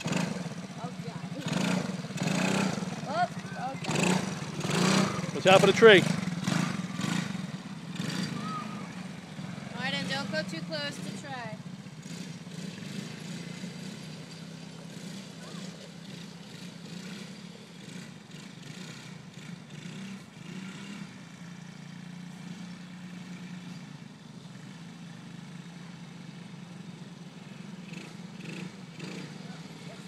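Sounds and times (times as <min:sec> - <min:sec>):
quad bike engines droning: 0:00.0 - 0:30.0.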